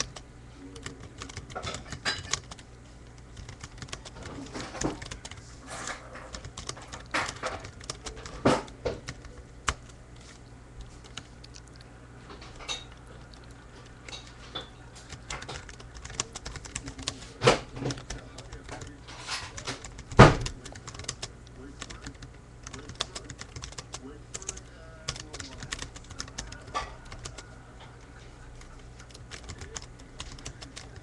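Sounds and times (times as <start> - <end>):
computer keyboard typing: 0.0 - 10.0, 10.8 - 11.8, 12.8 - 27.5, 28.5 - 31.0.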